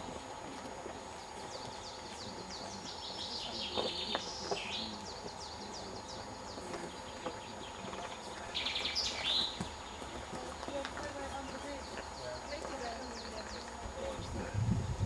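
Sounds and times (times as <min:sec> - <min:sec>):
birds chirping and trilling: 0:00.0 - 0:15.0
faint outdoor hiss: 0:00.0 - 0:15.0.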